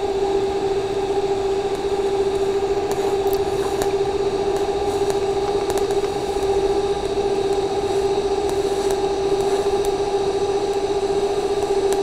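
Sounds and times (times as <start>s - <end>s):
welding arc buzzing: 1.4s - 12.0s.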